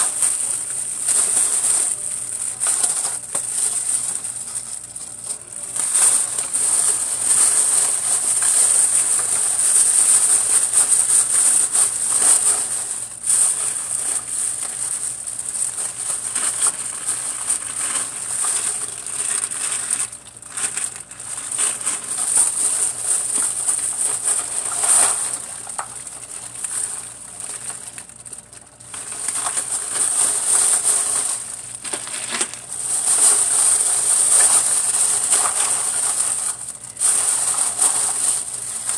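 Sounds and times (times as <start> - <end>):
plastic bags crinkling: 0.0 - 38.9
plastic tubes clattering: 0.0 - 38.9.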